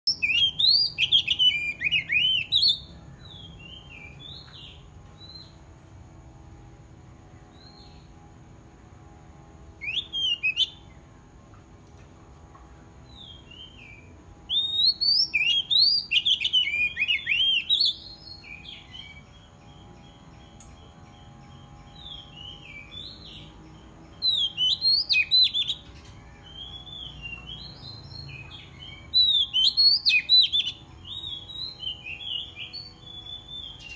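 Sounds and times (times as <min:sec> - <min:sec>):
bird singing whistled notes: 0:00.1 - 0:05.6, 0:07.5 - 0:08.1, 0:09.8 - 0:11.0, 0:13.0 - 0:33.9.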